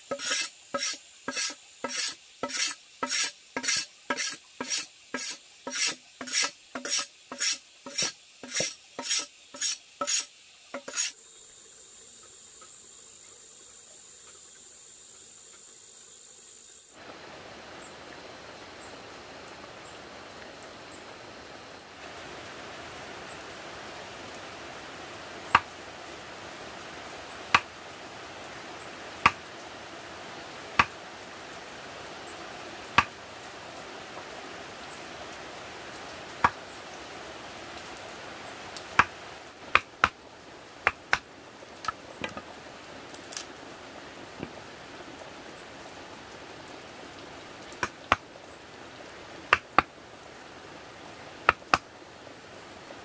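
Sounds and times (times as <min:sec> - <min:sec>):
steady background hiss: 0:00.0 - 0:53.0.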